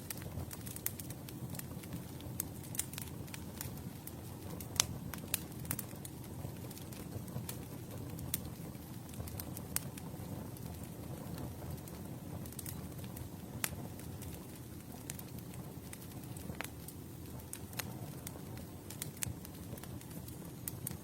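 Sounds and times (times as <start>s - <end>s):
campfire crackling and popping: 0.0s - 21.0s
low rumble of flame: 0.0s - 21.0s.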